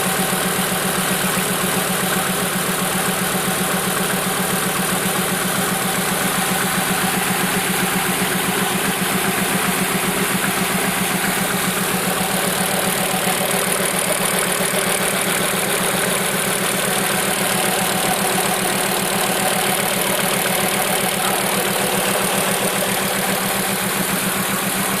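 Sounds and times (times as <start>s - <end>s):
car engine idling: 0.0s - 25.0s
fast rhythmic engine noise: 0.0s - 25.0s.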